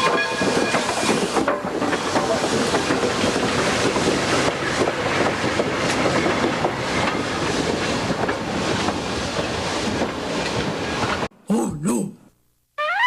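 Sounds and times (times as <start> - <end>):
railroad cars rumbling: 0.0 - 11.3
wheels clacking over rail joints: 0.0 - 11.3.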